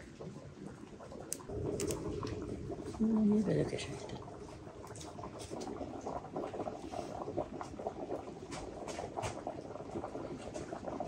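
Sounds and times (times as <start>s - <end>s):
water boiling in a pot: 0.0s - 11.0s.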